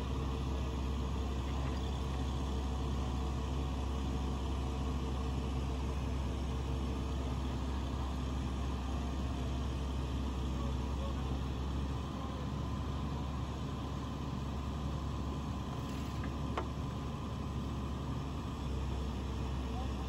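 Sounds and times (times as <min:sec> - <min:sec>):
heavy engine idling: 0:00.0 - 0:20.0.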